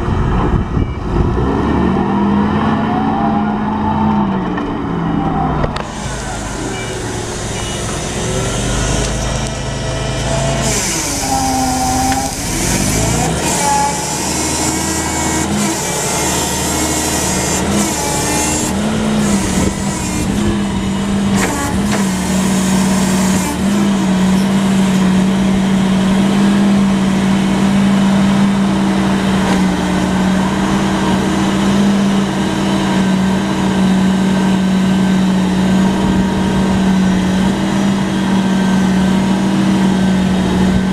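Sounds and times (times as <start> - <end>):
forklift engine running: 0.0 - 40.9.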